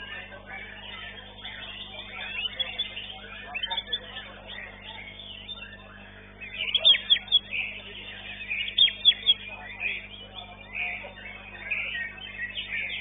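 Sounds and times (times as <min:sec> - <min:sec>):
bird singing chirps and whistles: 0:00.0 - 0:13.0.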